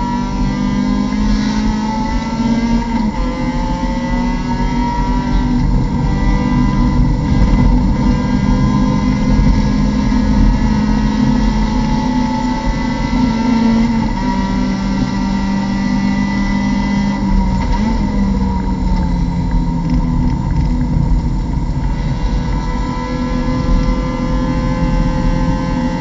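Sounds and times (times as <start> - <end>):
race car engine at high revs: 0.0 - 26.0.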